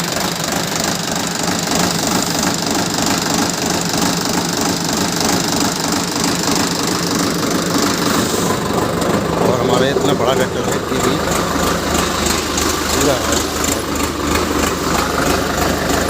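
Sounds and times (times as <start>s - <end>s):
diesel tractor engine knocking: 0.0s - 16.0s.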